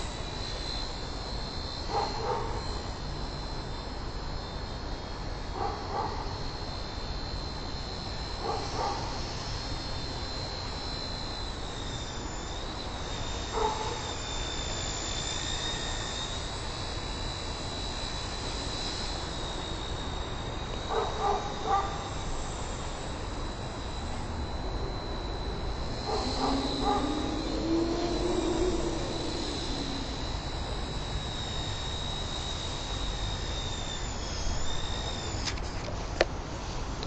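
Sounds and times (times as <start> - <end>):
toy helicopter motor whine: 0.0 - 37.0.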